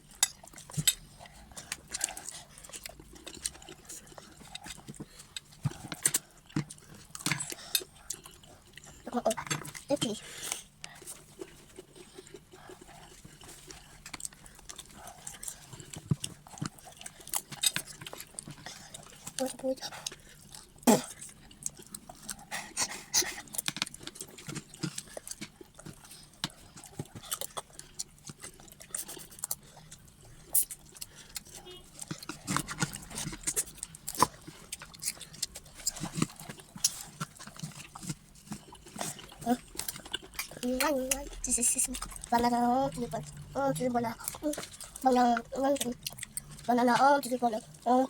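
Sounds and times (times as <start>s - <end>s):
chewing and mouth smacks: 0.0s - 47.9s.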